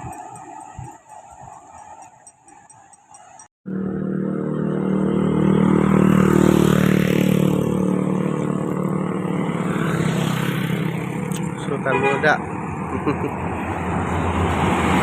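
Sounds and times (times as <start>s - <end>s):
bus engine passing: 0.0s - 15.0s.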